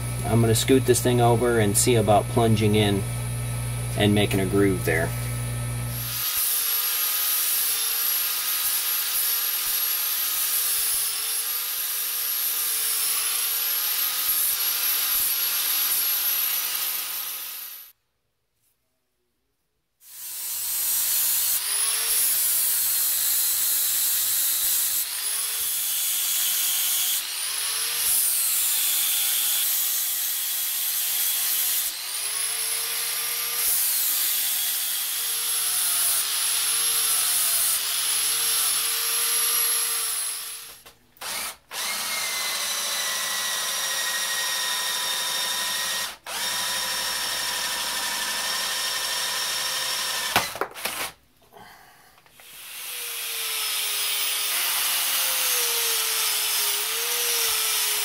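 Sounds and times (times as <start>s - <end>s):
angle grinder cutting steel: 5.9s - 17.9s, 20.0s - 51.1s, 52.4s - 58.0s
drill whining: 5.9s - 18.0s, 20.0s - 51.2s, 52.3s - 58.0s.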